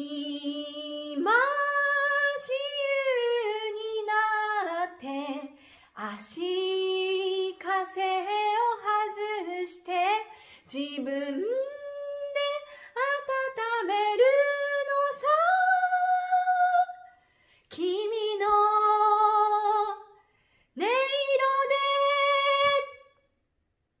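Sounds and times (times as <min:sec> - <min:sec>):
woman singing a cappella: 0:00.0 - 0:20.2, 0:20.8 - 0:23.2.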